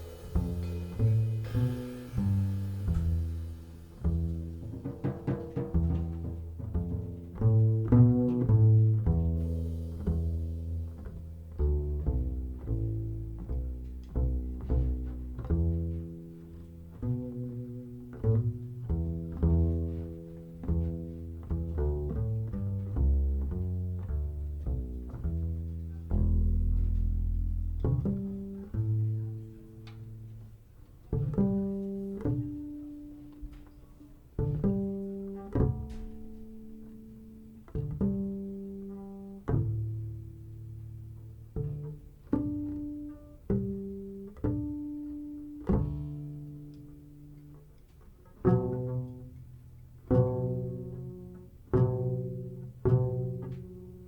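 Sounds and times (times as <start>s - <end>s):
jazz trio low notes: 0.0s - 54.0s.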